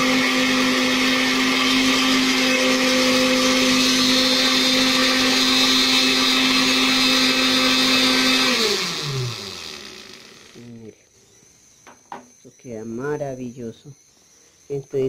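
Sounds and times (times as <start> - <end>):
blender running: 0.0 - 12.3
motor winding down: 0.0 - 15.0.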